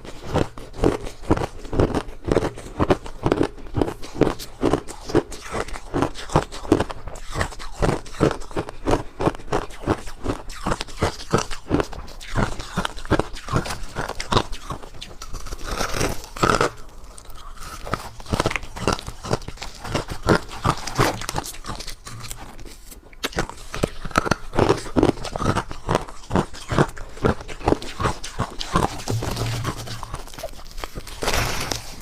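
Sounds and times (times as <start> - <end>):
ice being crunched and chewed: 0.0 - 32.0.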